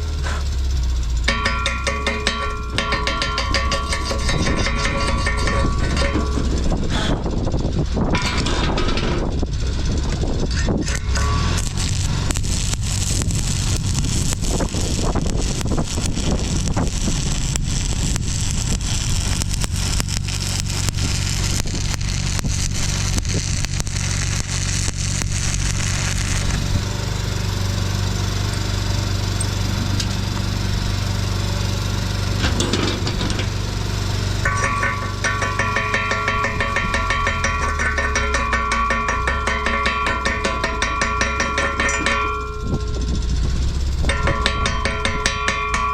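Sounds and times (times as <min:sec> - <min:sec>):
welding machine hum: 0:00.0 - 0:45.9
welding arc crackling: 0:00.8 - 0:45.9.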